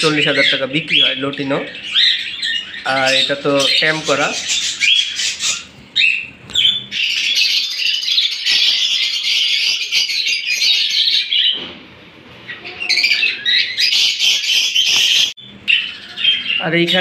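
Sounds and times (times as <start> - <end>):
parrots screeching and chattering: 0.0 - 17.0.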